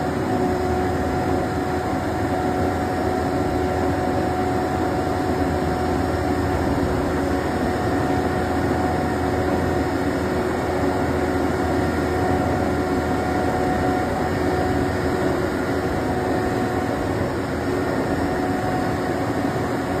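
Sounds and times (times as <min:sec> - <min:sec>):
concrete mixer truck engine whine: 0:00.0 - 0:20.0.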